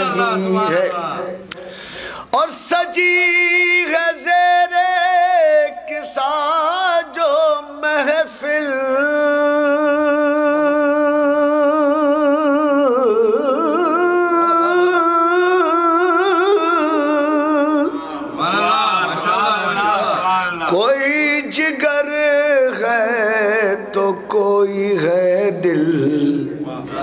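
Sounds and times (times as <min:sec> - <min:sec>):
man singing with vibrato: 0:00.0 - 0:27.0.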